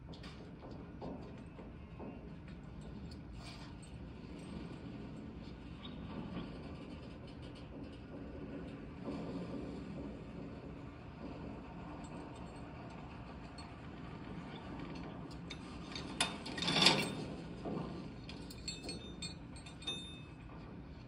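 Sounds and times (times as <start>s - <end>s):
low train rumble: 0.0s - 21.0s.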